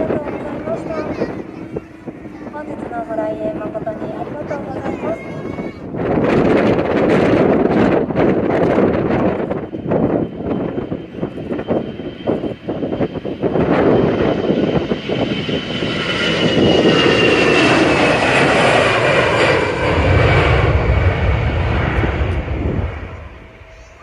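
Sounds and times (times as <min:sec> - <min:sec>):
deep jet rumble: 0:00.0 - 0:24.0
jet engine whine: 0:00.0 - 0:24.0
wind buffeting microphone: 0:00.0 - 0:24.0.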